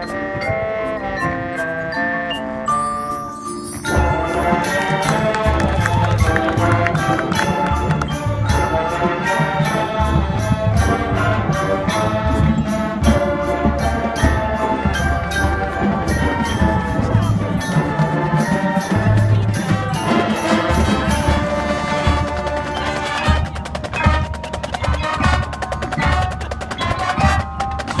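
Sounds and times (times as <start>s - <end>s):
marching band playing chords: 0.0s - 28.0s
steady drum beat: 3.8s - 28.0s.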